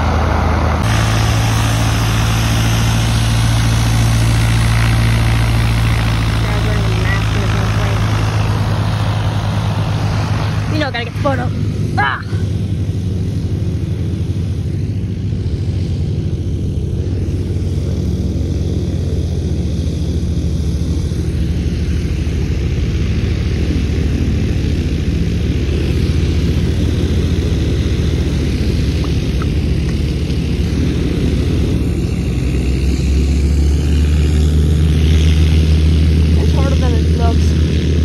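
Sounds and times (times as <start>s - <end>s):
propeller plane engine droning: 0.0s - 38.0s.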